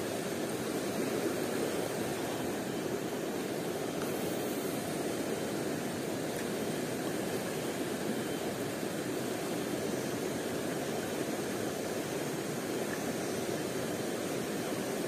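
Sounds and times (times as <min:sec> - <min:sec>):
flowing stream water: 0:00.0 - 0:15.0.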